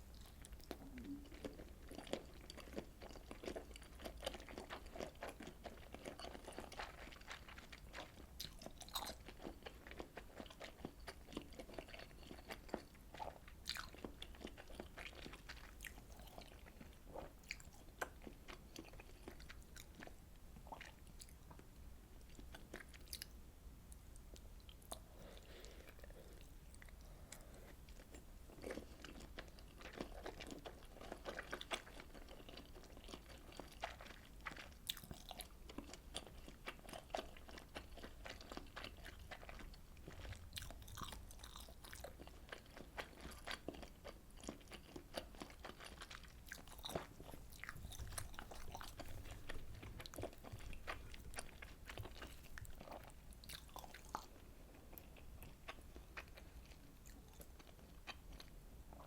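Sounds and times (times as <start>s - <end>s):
chewing and biting food: 0.2s - 21.4s, 24.3s - 59.0s.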